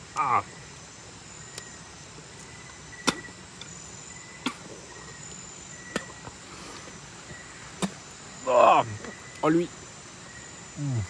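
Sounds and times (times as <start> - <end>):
constant hiss: 0.0 - 11.0
insects trilling: 0.0 - 11.0.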